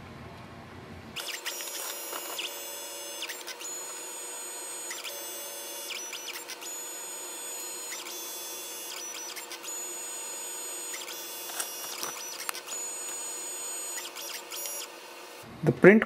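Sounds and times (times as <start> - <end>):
motor chirps: 1.2 - 15.5
printer feed motor whirring: 1.2 - 15.5.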